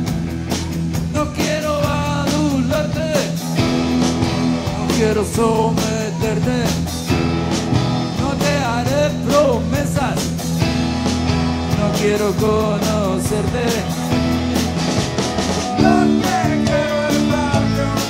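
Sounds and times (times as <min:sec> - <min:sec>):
electric guitar lead bending: 0:00.0 - 0:18.0
rock band playing live: 0:00.0 - 0:18.0.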